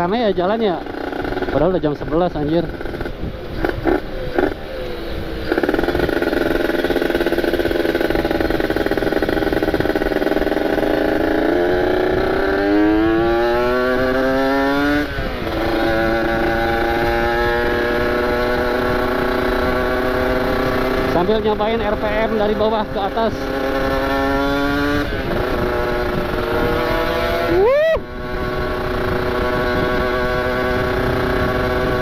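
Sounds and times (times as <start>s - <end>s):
two-stroke motorcycle engine revving: 0.0s - 32.0s.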